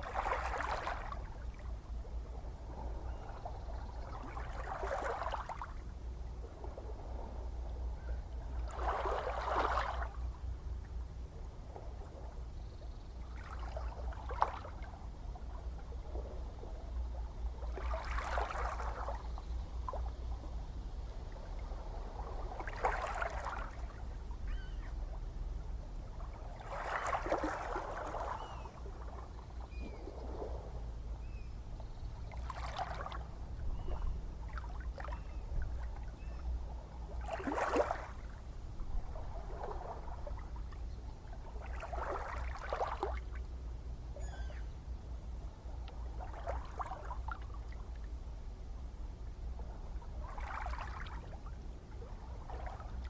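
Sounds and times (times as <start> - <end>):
low rumble of sea: 0.0 - 53.0.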